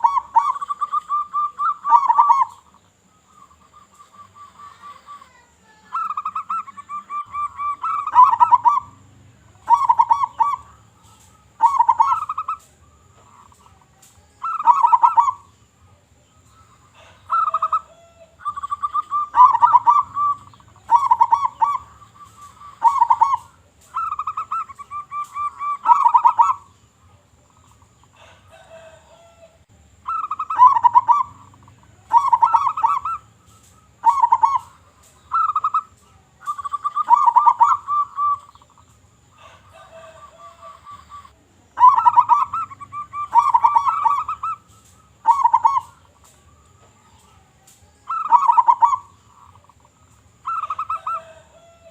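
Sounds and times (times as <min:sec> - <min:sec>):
dove cooing: 0:00.0 - 0:15.5, 0:16.6 - 0:26.8, 0:27.8 - 0:51.9.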